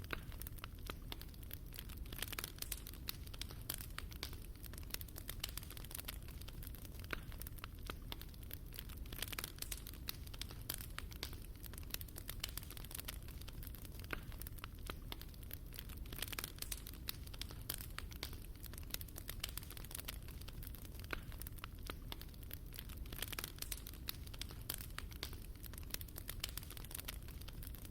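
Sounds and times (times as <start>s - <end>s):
fire crackling in fireplace: 0.0s - 27.9s
low rumble of flames: 0.0s - 27.9s.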